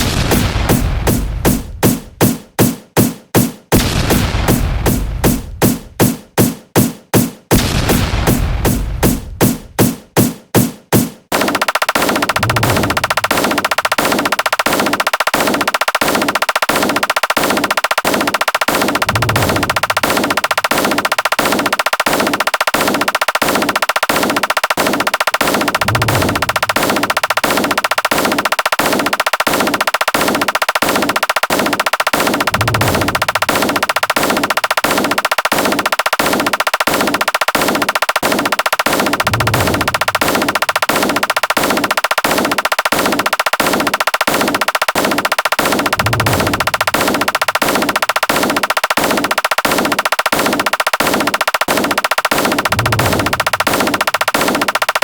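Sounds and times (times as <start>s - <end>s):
rapid repeated sound-effect hits: 0.0s - 55.0s.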